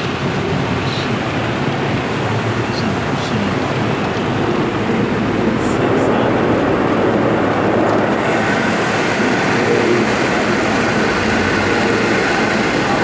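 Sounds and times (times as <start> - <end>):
car wash rushing noise: 0.0 - 13.0.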